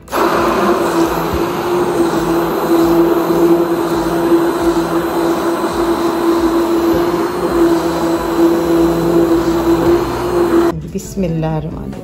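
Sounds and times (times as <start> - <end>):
immersion blender whirring: 0.0 - 10.8.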